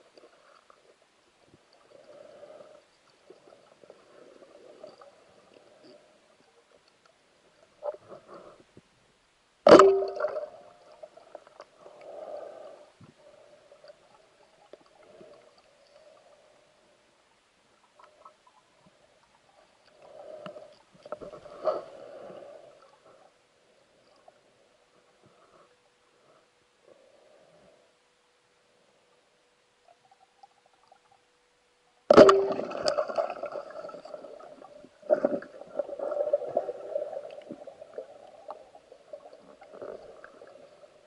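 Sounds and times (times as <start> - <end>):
water swishing and gurgling: 0.0 - 9.0, 9.6 - 41.0.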